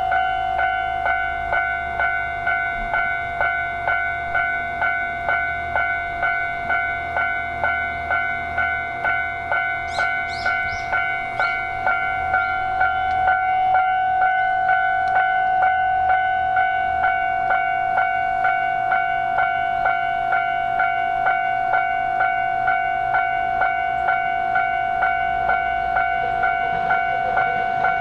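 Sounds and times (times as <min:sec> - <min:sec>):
freight train rumbling: 0:00.0 - 0:28.0
level crossing bell ringing: 0:00.0 - 0:28.0.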